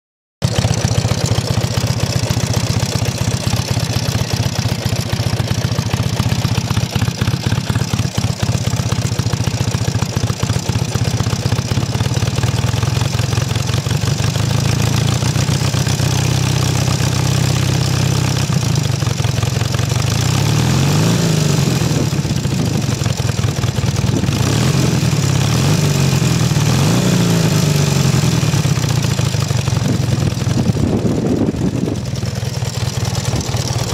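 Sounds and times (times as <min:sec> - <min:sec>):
motorcycle engine idling and revving: 0:00.4 - 0:33.9.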